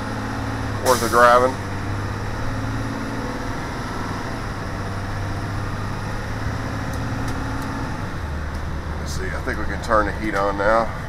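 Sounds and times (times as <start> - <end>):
diesel bus engine running: 0.0 - 11.0
road noise: 0.0 - 11.0.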